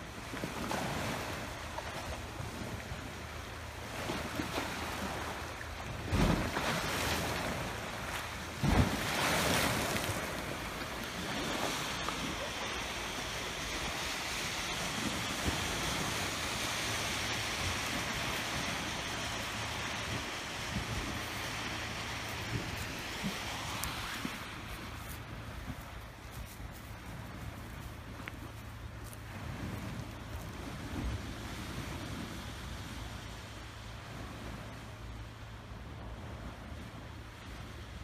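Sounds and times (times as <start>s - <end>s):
waves breaking on pebble shore: 0.0s - 33.2s
wind buffeting microphone: 4.0s - 34.9s.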